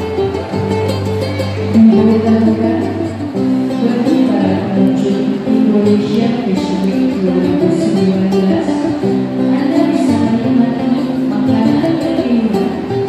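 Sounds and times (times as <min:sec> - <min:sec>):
plucked lute melody: 0:00.0 - 0:13.0.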